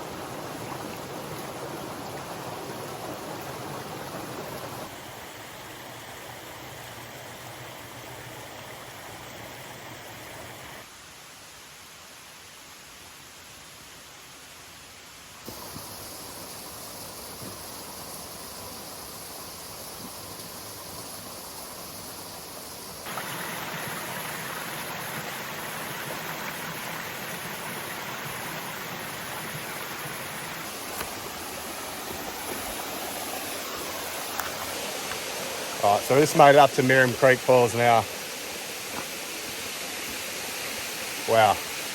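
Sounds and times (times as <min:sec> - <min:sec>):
creek water running over rocks: 0:00.0 - 0:10.9, 0:15.4 - 0:41.9.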